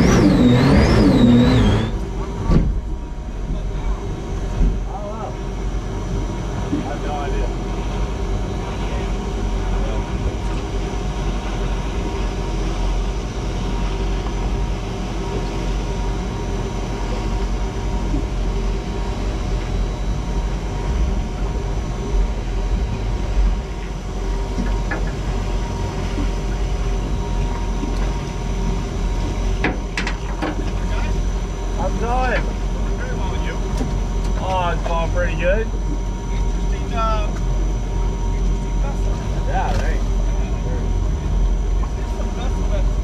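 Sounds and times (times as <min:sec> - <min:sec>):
boat engine idling: 0:00.0 - 0:43.0.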